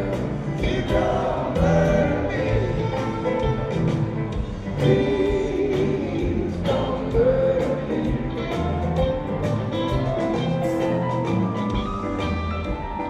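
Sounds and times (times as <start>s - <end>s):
gliding guitar line: 0.0s - 13.0s
rock band playing country song: 0.0s - 13.0s.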